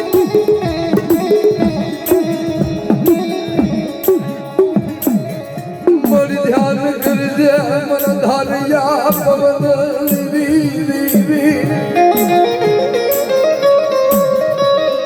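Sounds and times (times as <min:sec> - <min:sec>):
folk music with strong beat: 0:00.0 - 0:15.0.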